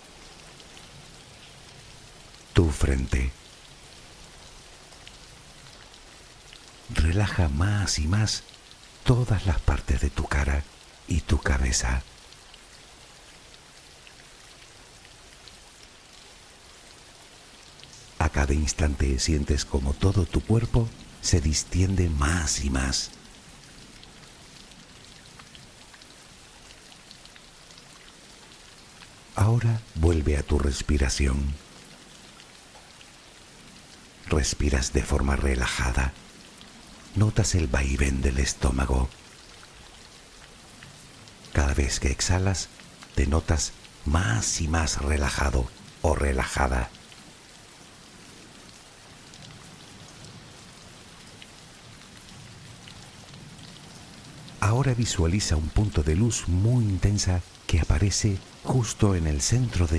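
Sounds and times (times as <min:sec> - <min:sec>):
soft rain falling: 0:00.0 - 0:59.9.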